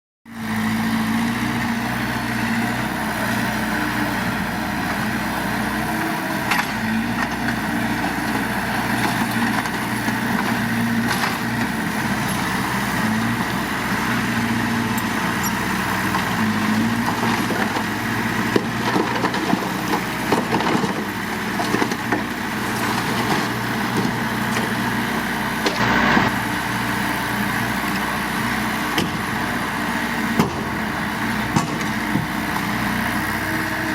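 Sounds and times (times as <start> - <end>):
heavy machinery diesel engine: 0.3 - 33.9.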